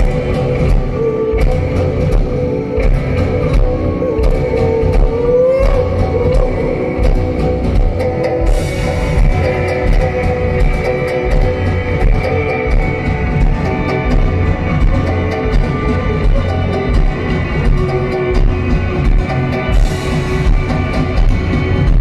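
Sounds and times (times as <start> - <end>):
drum kit beating: 0.0 - 22.0
rock band playing live: 0.0 - 22.0.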